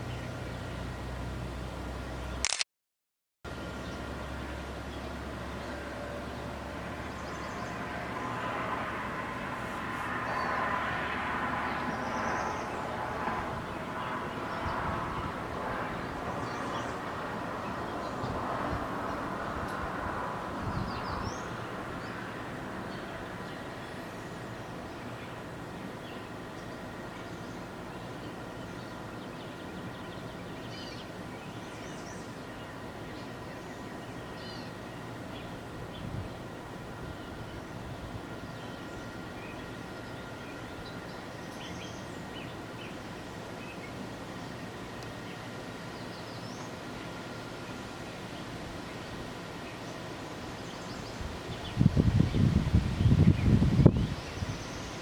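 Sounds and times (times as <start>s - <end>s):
distant vehicle traffic rumble: 0.0s - 2.5s, 3.5s - 55.0s.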